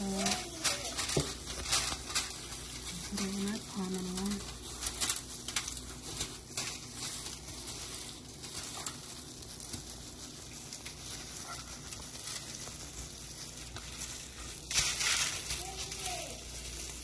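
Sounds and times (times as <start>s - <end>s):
aluminium foil crinkling: 0.0s - 17.0s
plastic gloves rustling: 0.0s - 17.0s.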